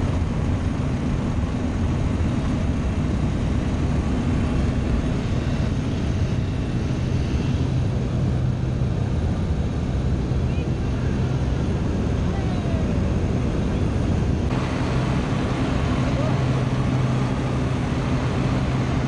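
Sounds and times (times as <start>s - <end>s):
propeller aircraft engine drone: 0.0s - 19.0s.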